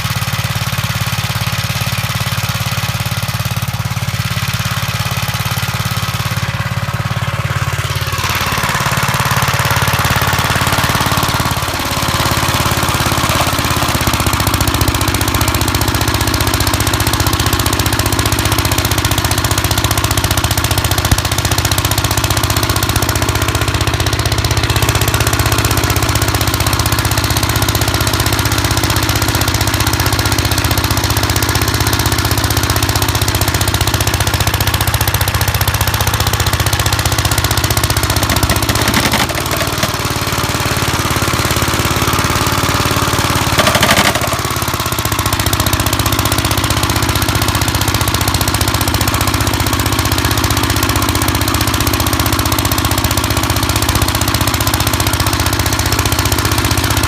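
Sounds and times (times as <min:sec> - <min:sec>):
tractor engine throbbing: 0:00.0 - 0:57.0.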